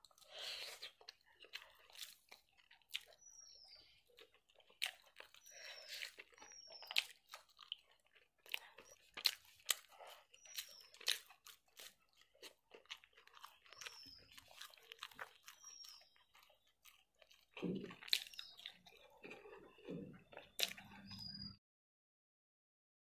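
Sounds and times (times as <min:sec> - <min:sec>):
wet chewing and lip-smacks: 0:00.0 - 0:21.6.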